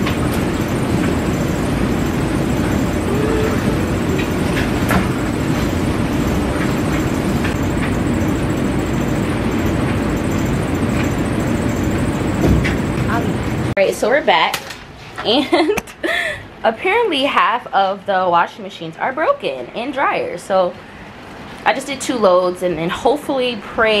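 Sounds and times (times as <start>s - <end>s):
washers and dryers humming: 0.0s - 24.0s.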